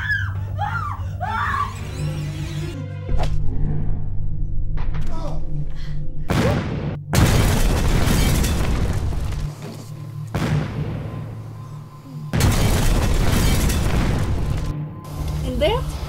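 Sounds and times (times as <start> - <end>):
film score music: 0.0 - 16.0.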